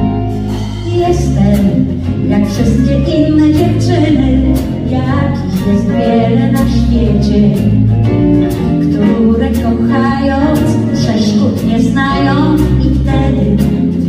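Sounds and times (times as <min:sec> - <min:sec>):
bass notes: 0:00.0 - 0:14.0
pop band playing: 0:00.0 - 0:14.0.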